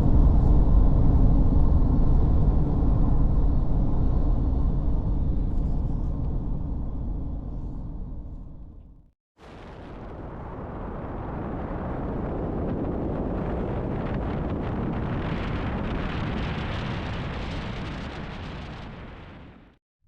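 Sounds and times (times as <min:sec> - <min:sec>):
wind buffeting microphone: 0:00.0 - 0:08.3, 0:09.8 - 0:19.4.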